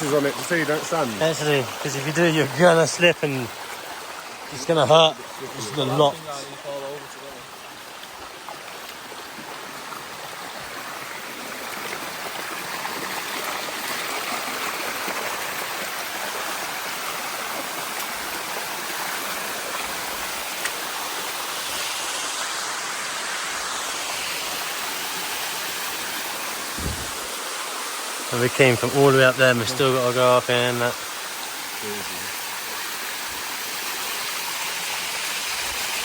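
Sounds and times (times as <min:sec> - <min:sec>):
waterfall rushing over rocks: 0:00.0 - 0:36.0.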